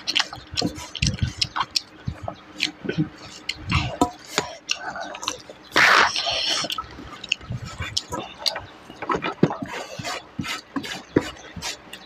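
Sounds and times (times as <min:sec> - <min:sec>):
chewing with lip smacks: 0:00.0 - 0:12.0.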